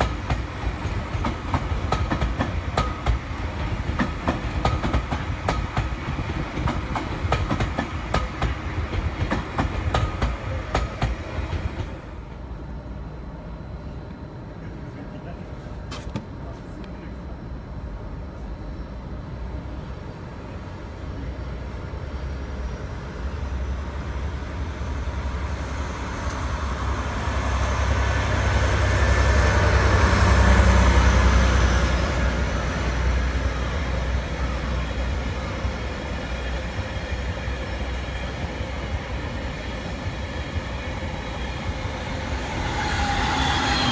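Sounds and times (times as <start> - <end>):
train wheels on rails: 0.0 - 12.7, 21.2 - 43.9
diesel locomotive engine rumble: 0.0 - 43.9.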